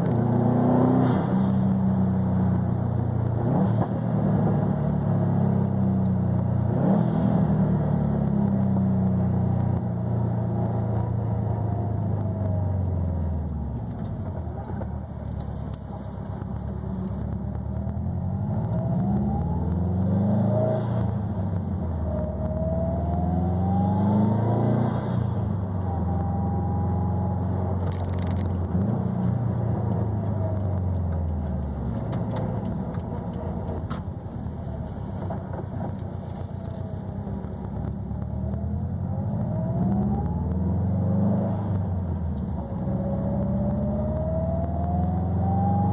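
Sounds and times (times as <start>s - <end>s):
car exhaust note while cruising: 7.7s - 45.9s.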